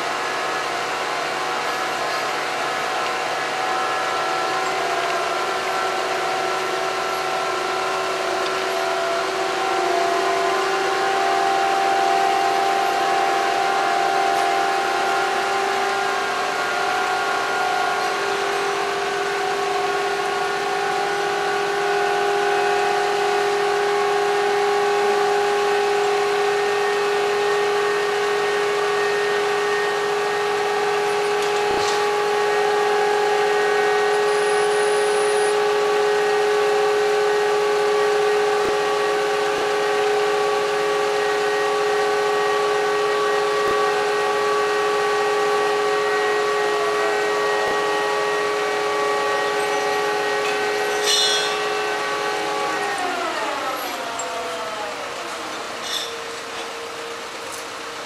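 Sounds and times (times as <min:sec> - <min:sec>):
hydraulic crane and truck engine whine: 0:00.0 - 0:58.0.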